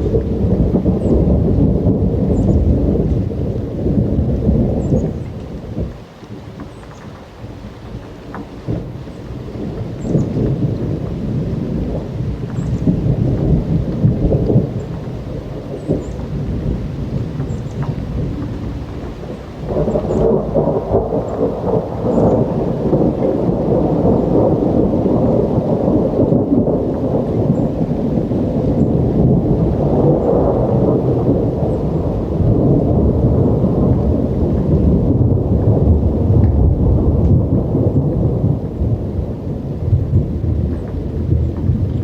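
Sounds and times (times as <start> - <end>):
rolling thunder rumble: 0.0 - 42.0
steady rain: 0.0 - 42.0.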